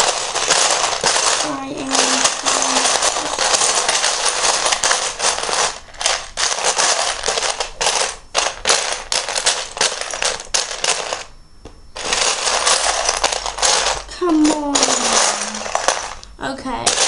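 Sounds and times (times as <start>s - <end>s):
plastic bricks clattering: 0.0s - 11.3s, 12.0s - 17.0s.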